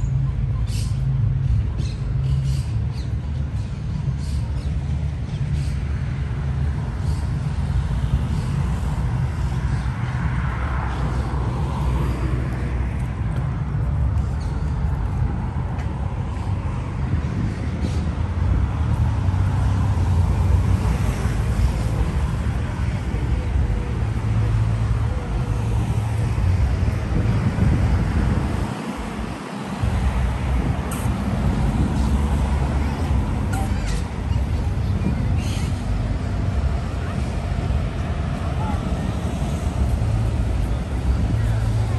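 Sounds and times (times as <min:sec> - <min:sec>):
rumble of passing cars: 0:00.0 - 0:41.9.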